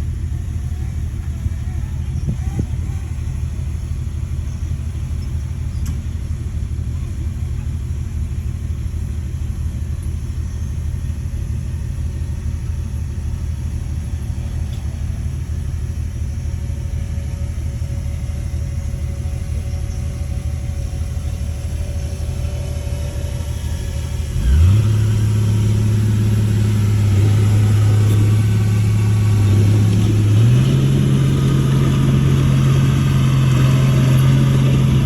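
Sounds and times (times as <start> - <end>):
bulldozer diesel engine rumbling: 0.0 - 35.0.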